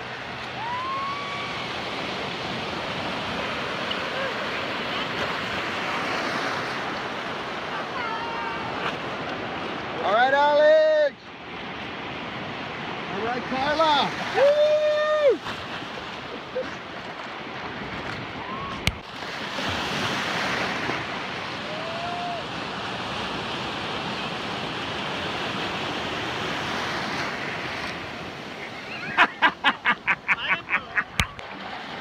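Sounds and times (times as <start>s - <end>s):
ocean waves washing in shallow surf: 0.0s - 32.0s.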